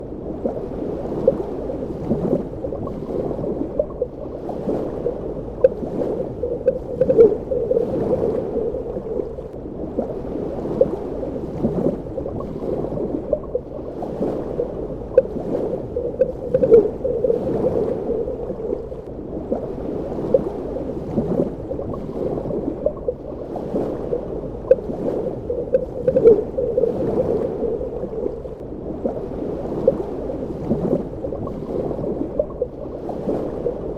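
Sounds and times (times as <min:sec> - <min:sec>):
underwater water rush with bubbles: 0:00.0 - 0:33.9.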